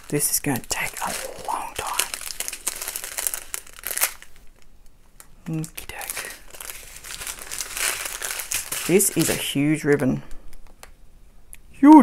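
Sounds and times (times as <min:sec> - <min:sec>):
plastic packets crinkling: 0:00.0 - 0:10.8.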